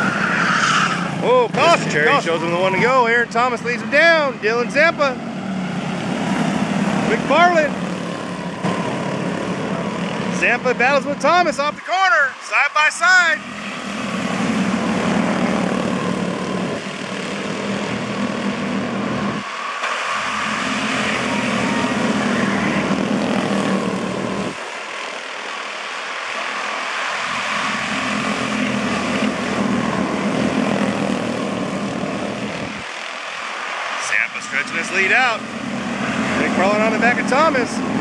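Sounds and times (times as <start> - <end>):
race car engines buzzing drone: 0.0 - 38.0.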